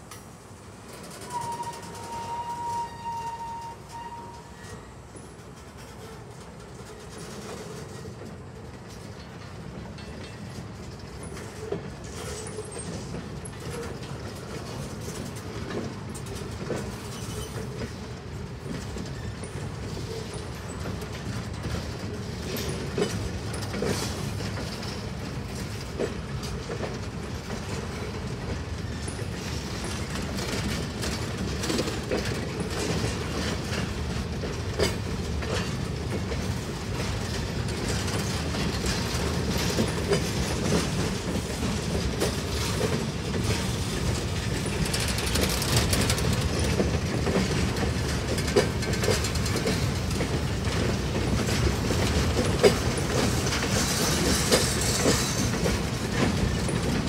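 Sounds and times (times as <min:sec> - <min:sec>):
freight train wheels clicking: 0:00.0 - 0:57.0
train clanks and knocks: 0:00.0 - 0:57.0.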